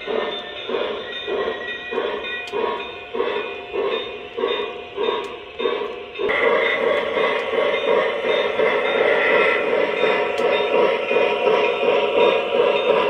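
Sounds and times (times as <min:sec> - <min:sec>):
approaching model train: 0:00.0 - 0:13.0
model locomotive bell ringing: 0:00.0 - 0:13.0.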